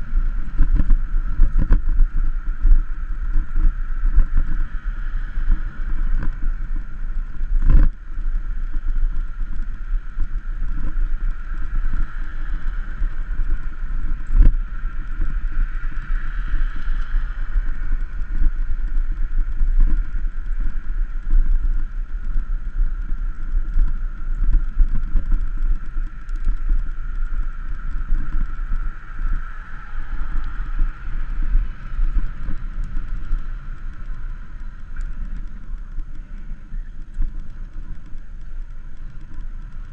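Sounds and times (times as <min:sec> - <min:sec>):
bicycle road rumble: 0:00.0 - 0:39.9
wind on microphone: 0:00.0 - 0:39.9.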